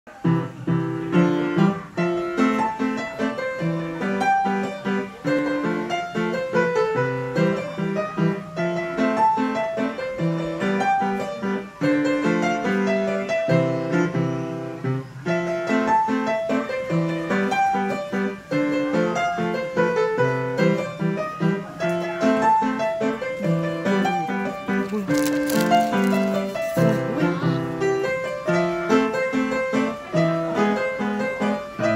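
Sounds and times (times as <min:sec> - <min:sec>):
piano playing: 0:00.1 - 0:31.9.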